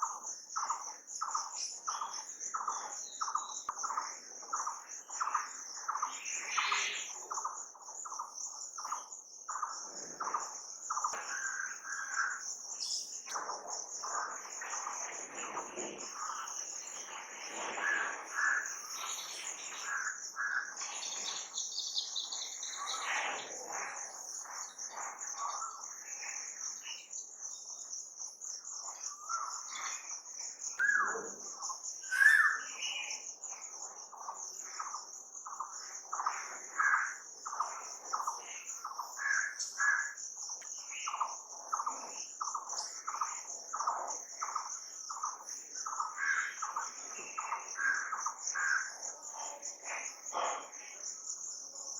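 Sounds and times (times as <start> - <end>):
birds calling and chirping: 0.0 - 51.9
crickets trilling: 0.0 - 51.9.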